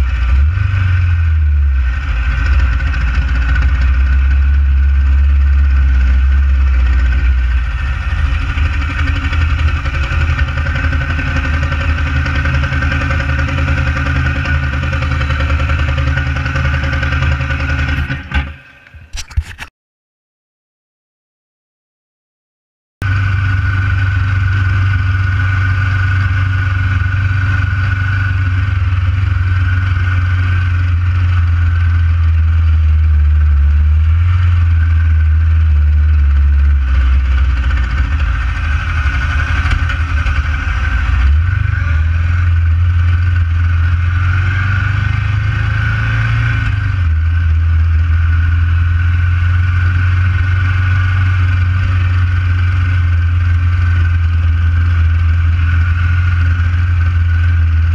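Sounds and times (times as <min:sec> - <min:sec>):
motorcycle engine running: 0:00.0 - 0:19.6, 0:23.0 - 0:57.9.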